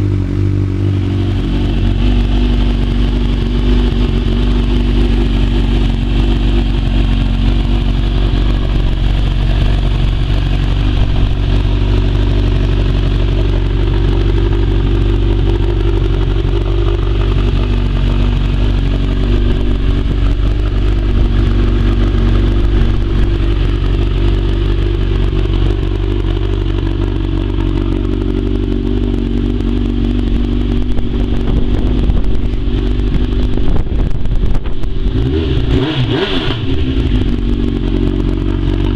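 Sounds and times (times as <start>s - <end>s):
motorcycle engine idling: 0.0s - 35.7s, 36.6s - 38.9s.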